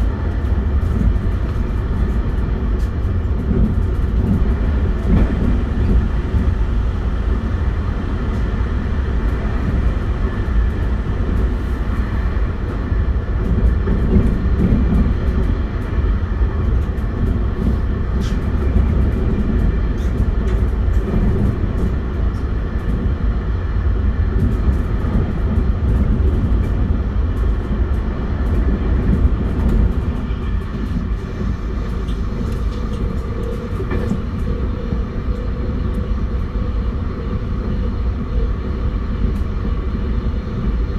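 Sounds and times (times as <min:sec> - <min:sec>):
train motor hum: 0:00.0 - 0:40.9
train wheel-on-rail rumble: 0:00.0 - 0:40.9.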